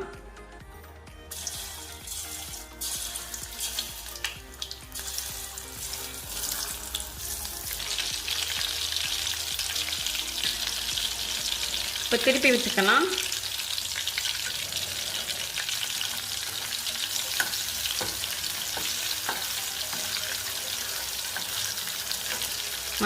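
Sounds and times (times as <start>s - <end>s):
food sizzling in hot oil: 1.3s - 23.0s.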